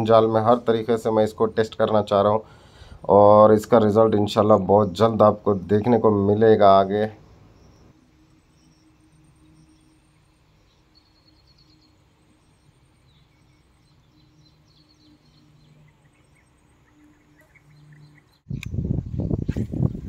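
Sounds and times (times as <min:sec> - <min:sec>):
distant small birds chirping: 0:00.0 - 0:20.0.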